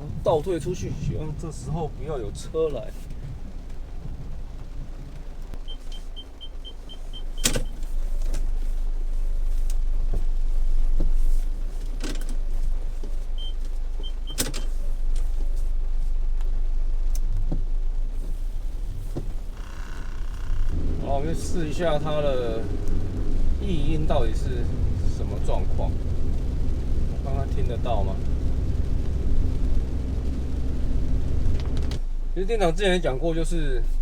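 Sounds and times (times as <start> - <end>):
low rumble of moving car: 0.0 - 34.0.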